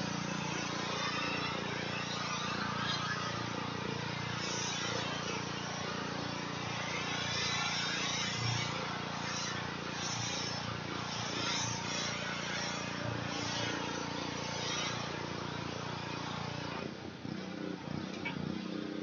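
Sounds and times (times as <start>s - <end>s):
pressure washer engine drone: 0.0s - 19.0s.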